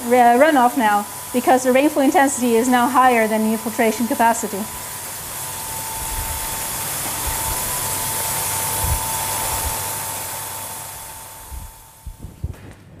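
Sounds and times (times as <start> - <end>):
thin steady tone: 0.0 - 12.0
heavy rain hiss: 0.0 - 12.4.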